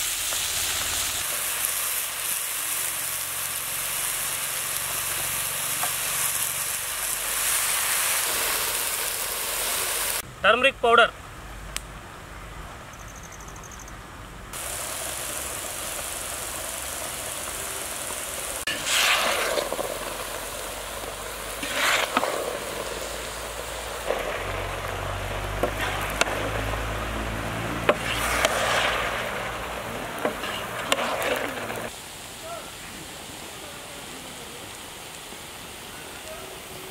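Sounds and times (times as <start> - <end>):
vegetables sizzling in a pan: 0.0 - 10.2, 14.5 - 36.9.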